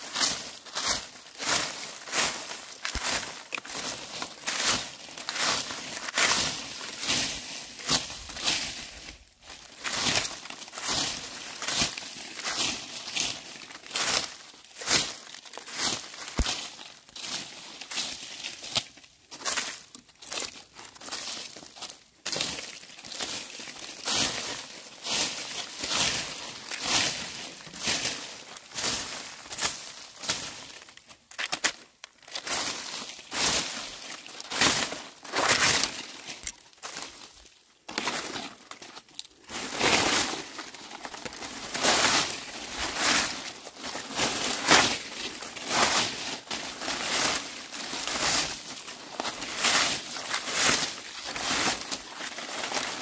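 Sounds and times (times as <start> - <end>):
dry leaves being swept: 0.0 - 31.0, 32.3 - 53.0.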